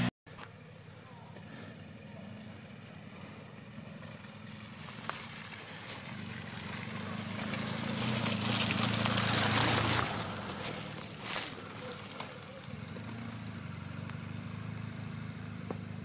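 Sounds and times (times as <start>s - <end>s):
motorcycle engine passing: 0.0s - 16.0s.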